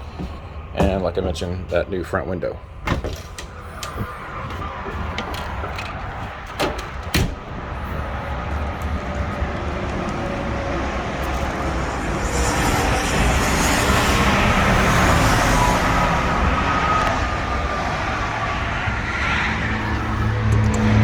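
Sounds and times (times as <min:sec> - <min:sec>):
road traffic noise: 0:00.0 - 0:21.0
vehicle passing: 0:00.0 - 0:21.0.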